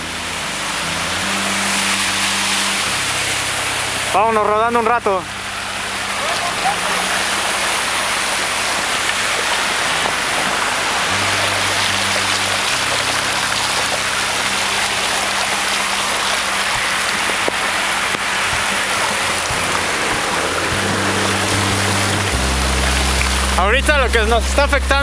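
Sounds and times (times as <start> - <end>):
rain and rushing water: 0.0 - 25.0.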